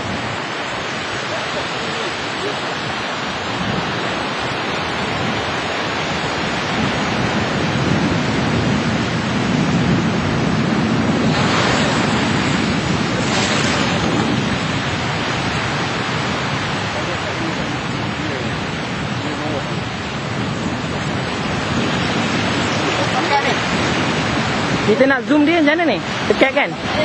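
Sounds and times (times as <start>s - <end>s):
surf washing onto beach: 0.0s - 27.0s
wind on microphone: 0.0s - 27.0s.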